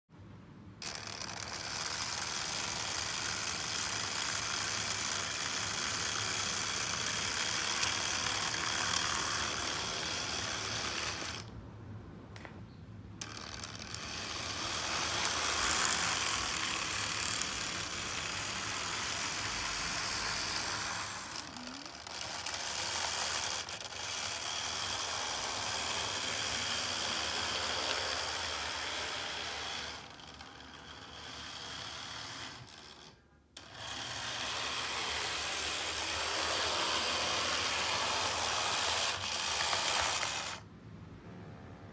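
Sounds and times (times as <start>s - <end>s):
model train running on track: 0.8s - 11.5s, 13.2s - 40.6s.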